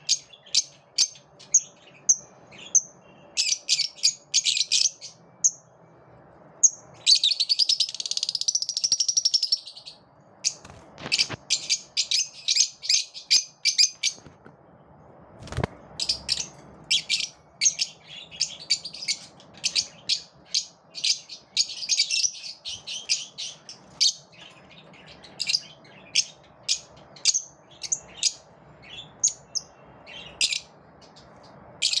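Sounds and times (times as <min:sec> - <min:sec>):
lovebirds chirping: 0:00.0 - 0:14.4, 0:15.4 - 0:32.0.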